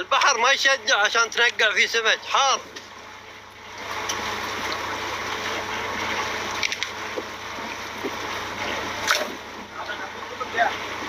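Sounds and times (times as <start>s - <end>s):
low steady hum: 0.0s - 11.0s
running water gushing: 0.0s - 11.0s.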